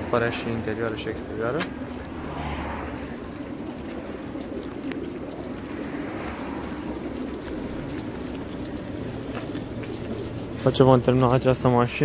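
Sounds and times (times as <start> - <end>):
pigeons cooing: 0.0 - 11.4.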